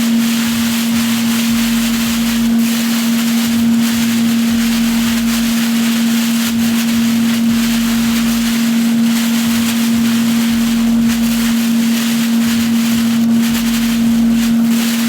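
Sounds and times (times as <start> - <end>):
chicken sizzling in hot oil: 0.0 - 15.0
steady low hum: 0.0 - 15.0.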